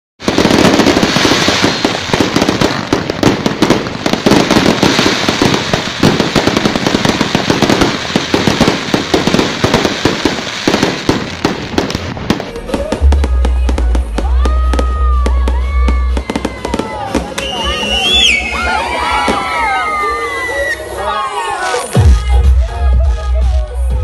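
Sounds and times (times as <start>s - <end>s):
fireworks bangs and crackles: 0.2s - 20.2s.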